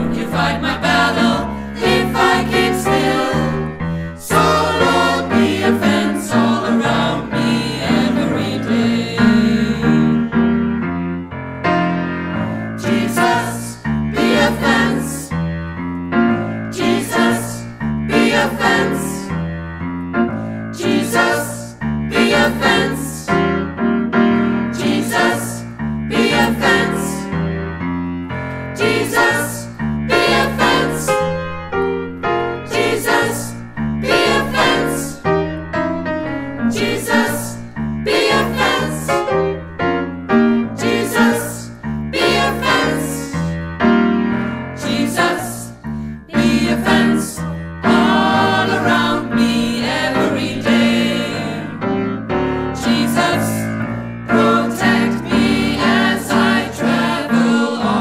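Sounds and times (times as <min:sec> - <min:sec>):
choir singing in harmony: 0:00.0 - 0:10.9, 0:12.0 - 0:15.4, 0:16.1 - 0:19.5, 0:20.2 - 0:27.8, 0:28.7 - 0:58.0
grand piano: 0:00.0 - 0:58.0.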